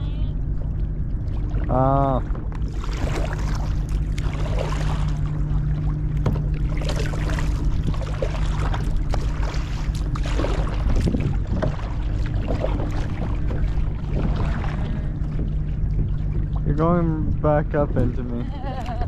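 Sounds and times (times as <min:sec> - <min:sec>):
steady low rumble: 0:00.0 - 0:19.0
paddle splashing in water: 0:00.6 - 0:16.6.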